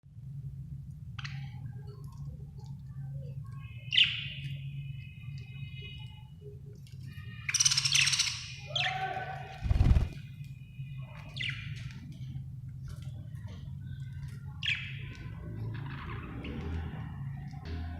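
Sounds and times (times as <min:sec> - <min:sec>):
steady low hum: 0:00.1 - 0:07.6, 0:09.4 - 0:17.9.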